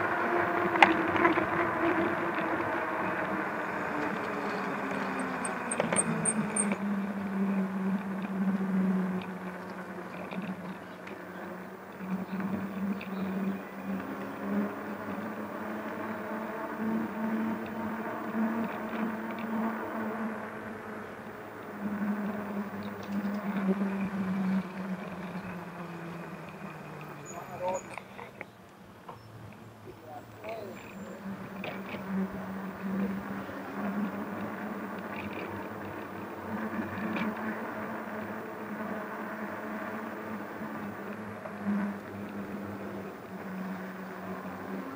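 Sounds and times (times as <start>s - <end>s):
electric motor hum: 0.0s - 28.1s, 29.4s - 44.9s
street noise: 0.0s - 44.9s.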